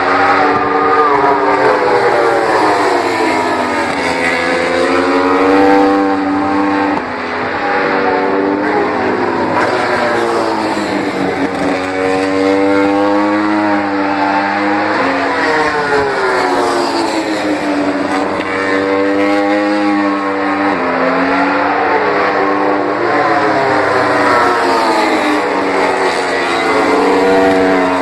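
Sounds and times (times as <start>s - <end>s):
racing motorcycles passing: 0.0s - 28.0s.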